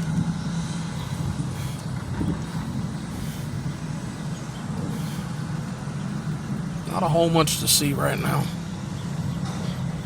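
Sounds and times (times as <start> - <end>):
car engine hum: 0.0 - 10.0
road noise: 0.0 - 10.0.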